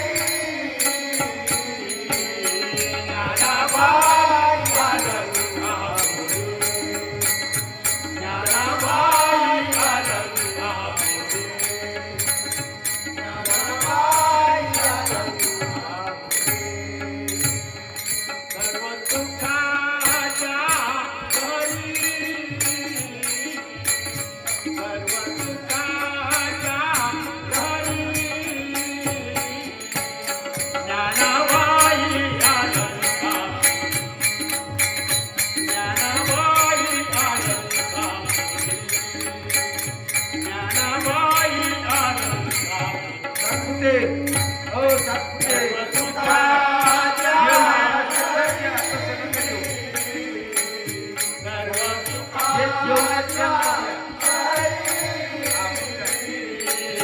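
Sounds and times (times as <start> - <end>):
metallic strokes keeping beat: 0.0 - 57.0.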